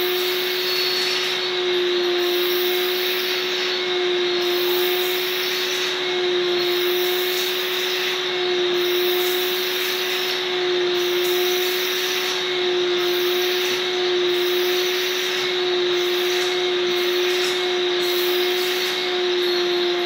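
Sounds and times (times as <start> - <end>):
suction motor whining: 0.0 - 20.0
vacuum tool hissing on fabric: 0.0 - 20.0.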